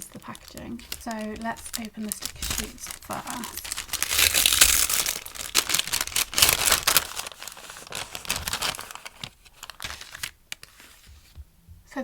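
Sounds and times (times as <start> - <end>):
packaging crinkling and rustling: 0.0 - 11.4.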